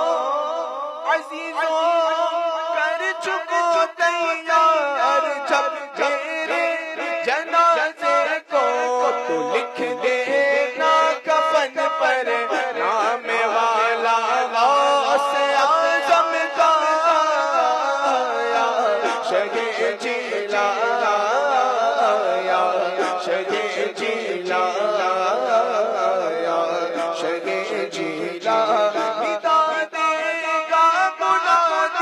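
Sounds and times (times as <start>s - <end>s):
man singing unaccompanied: 0.0s - 32.0s.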